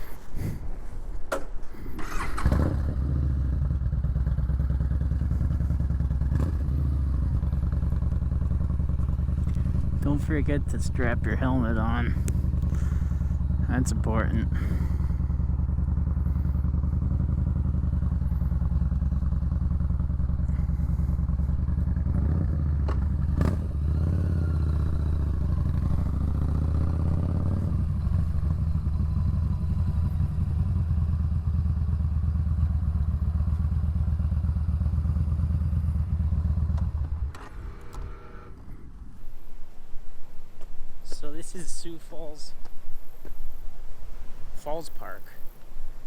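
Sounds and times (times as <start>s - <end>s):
motorcycle engine running: 1.7s - 39.8s.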